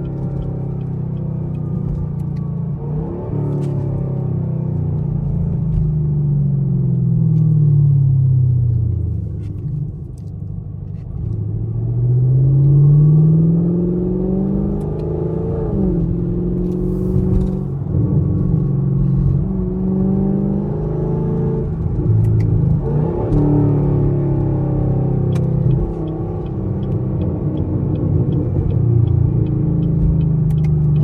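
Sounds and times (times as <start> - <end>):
car exhaust while driving: 0.0 - 31.0.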